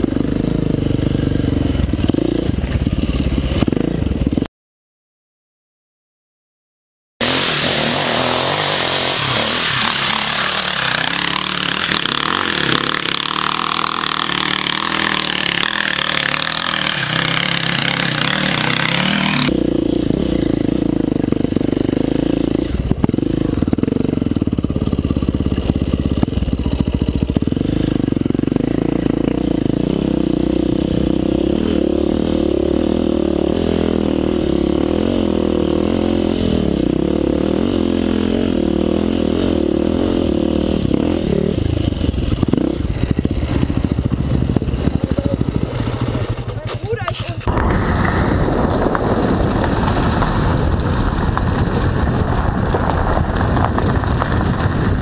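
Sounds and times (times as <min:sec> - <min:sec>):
dirt bike engine: 0:00.0 - 0:04.5, 0:07.2 - 0:55.0.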